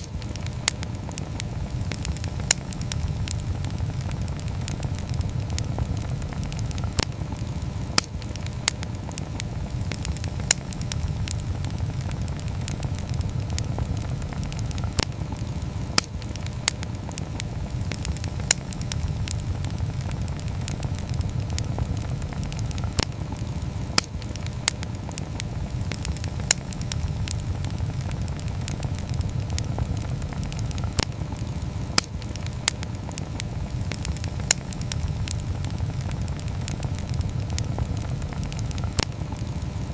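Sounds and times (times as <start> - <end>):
burning wood crackling: 0.0 - 39.9
campfire flames rumbling: 0.0 - 39.9.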